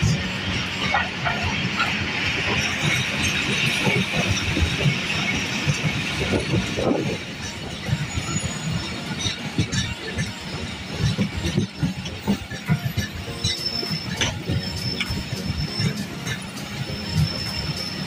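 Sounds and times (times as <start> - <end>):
wheels knocking and rattling: 0.0 - 18.0.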